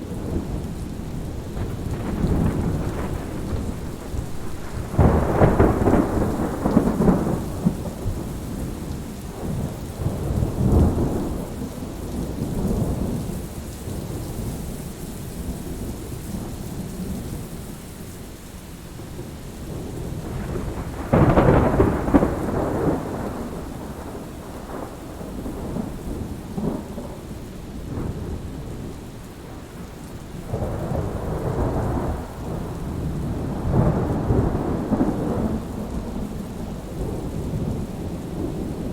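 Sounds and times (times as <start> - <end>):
thunder rumbling: 0.0 - 14.2, 19.0 - 38.9
steady rain: 0.0 - 38.9.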